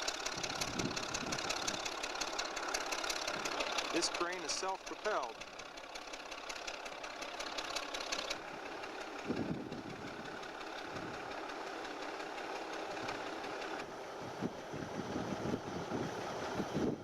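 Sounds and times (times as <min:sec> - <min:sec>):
rapid mechanical clatter: 0:00.0 - 0:13.9
crane engine running: 0:00.0 - 0:17.0.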